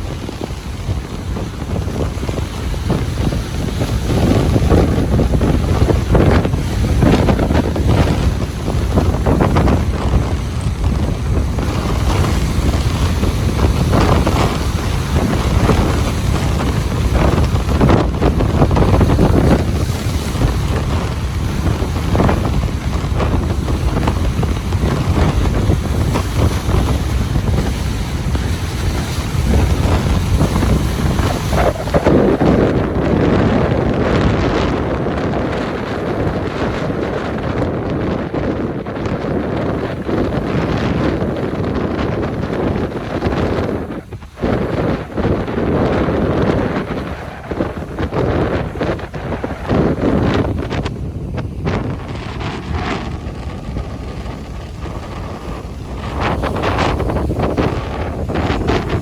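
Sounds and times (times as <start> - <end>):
ocean surf breaking on beach: 0.0 - 59.0
wind buffeting microphone: 0.0 - 59.0.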